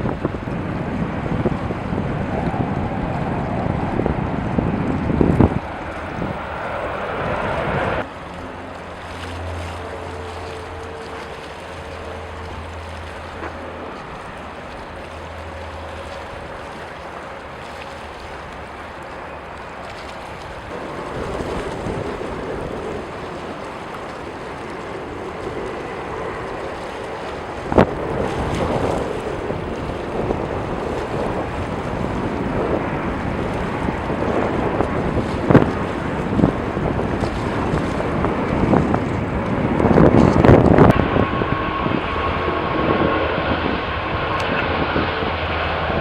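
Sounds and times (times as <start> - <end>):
jet engine noise: 0.0 - 46.0
wind buffeting microphone: 0.0 - 46.0.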